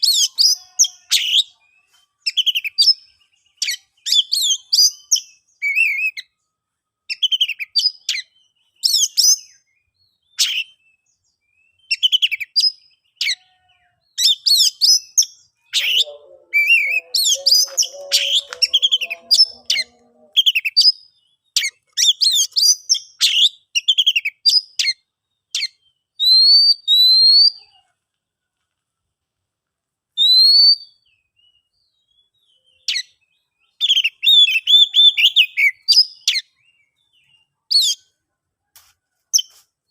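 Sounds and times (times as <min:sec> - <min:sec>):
bird singing chirps and whistles: 0:00.0 - 0:06.4, 0:07.1 - 0:13.4, 0:14.1 - 0:27.7, 0:30.2 - 0:38.1.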